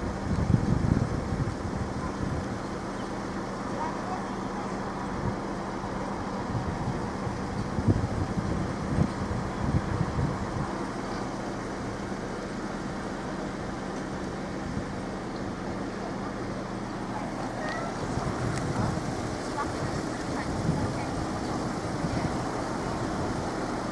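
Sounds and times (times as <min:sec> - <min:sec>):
road traffic rumble: 0:00.0 - 0:23.9
vehicles passing: 0:00.0 - 0:23.9.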